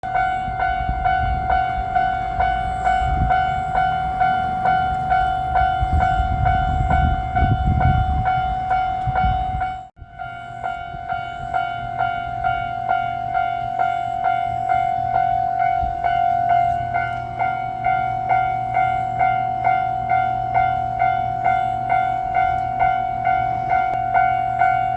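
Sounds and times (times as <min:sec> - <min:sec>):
diesel train rumbling past: 0:00.0 - 0:24.9
electronic crossing bell ringing: 0:00.0 - 0:24.9.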